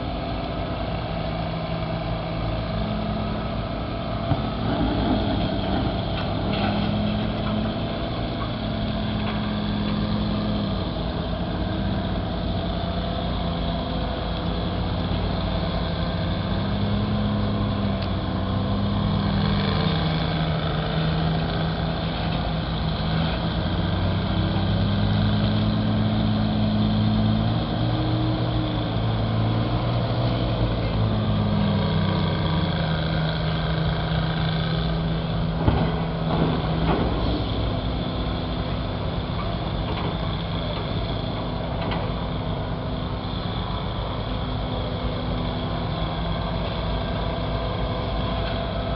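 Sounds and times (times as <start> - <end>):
backhoe engines digging dirt: 0.0 - 48.9.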